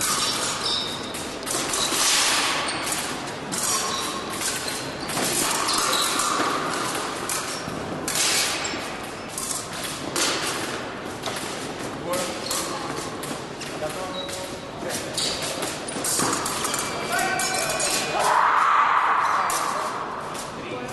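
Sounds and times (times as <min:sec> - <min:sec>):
fencing blades clattering: 0:00.0 - 0:20.9
fencing footwork scuffs and stamps: 0:00.0 - 0:20.9.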